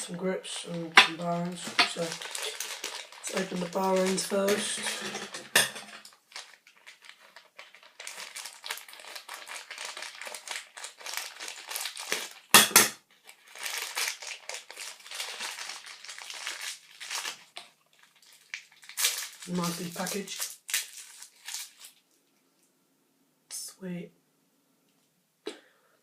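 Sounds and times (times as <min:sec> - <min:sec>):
packaging crinkling and tearing: 0:00.0 - 0:22.1.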